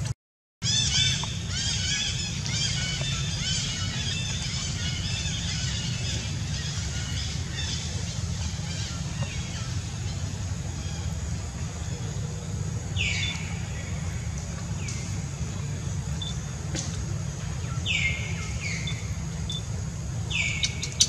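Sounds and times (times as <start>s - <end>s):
small birds chirping: 0.6s - 21.0s.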